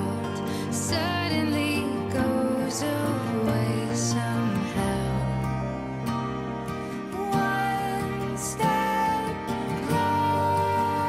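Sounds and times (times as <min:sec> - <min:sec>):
slow song with sustained notes: 0:00.0 - 0:11.0.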